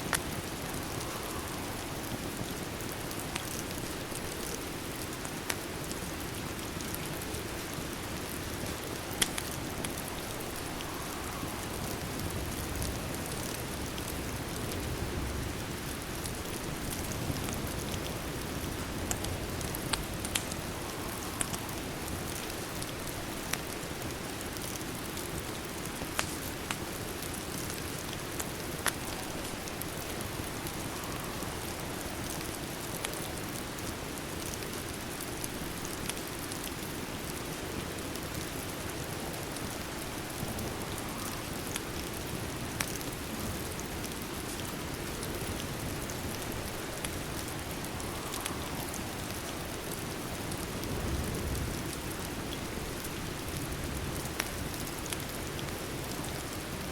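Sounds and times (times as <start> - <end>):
steady rain: 0.0 - 56.9
wood fire crackling and popping: 0.0 - 56.9.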